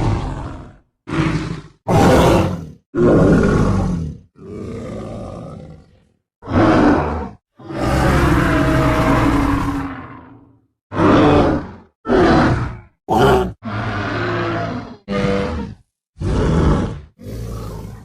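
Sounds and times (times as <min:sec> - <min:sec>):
dinosaur roars: 0:00.0 - 0:18.0.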